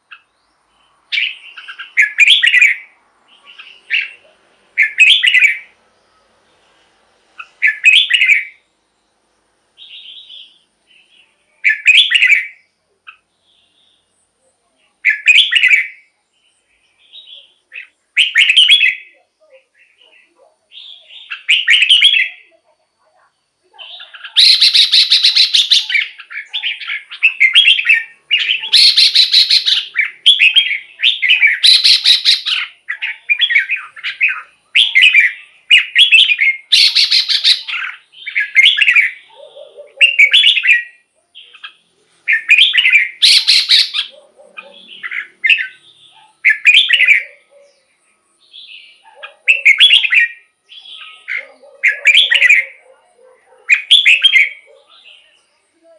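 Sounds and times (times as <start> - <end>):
bird singing warbled phrases: 0.0 - 6.4, 7.3 - 55.9.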